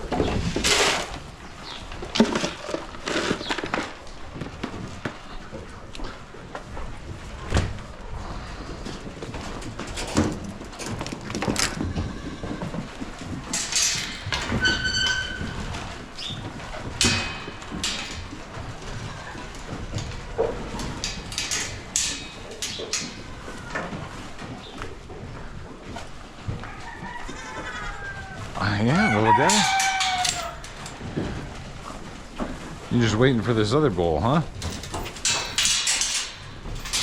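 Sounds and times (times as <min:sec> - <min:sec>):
knocks and clatter of chores: 0:00.0 - 0:37.0.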